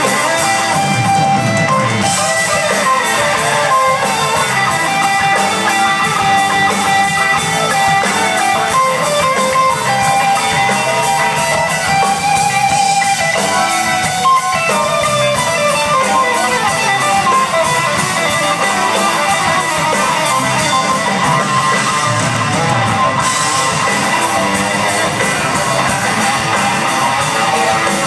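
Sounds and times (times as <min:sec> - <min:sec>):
electric guitar lines: 0:00.0 - 0:28.0
live rock band playing: 0:00.0 - 0:28.0.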